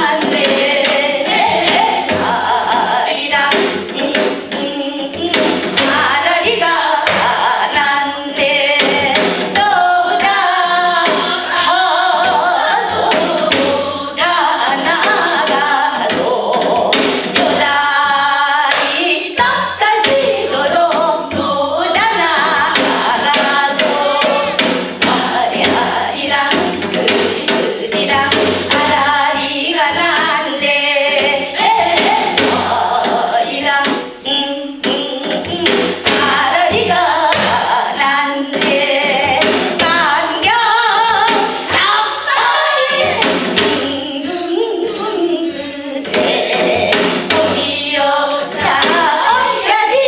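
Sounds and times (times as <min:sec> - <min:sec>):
drum beating rhythm: 0:00.0 - 0:50.0
women singing folk song: 0:00.0 - 0:50.0.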